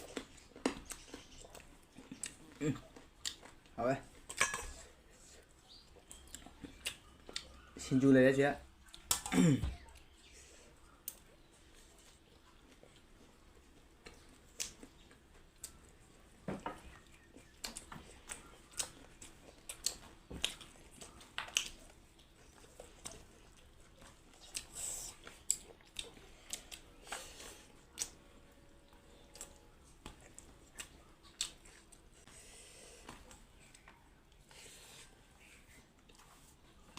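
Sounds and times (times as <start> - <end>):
person chewing with mouth smacks: 0.0 - 7.8, 8.8 - 10.2, 10.8 - 36.9.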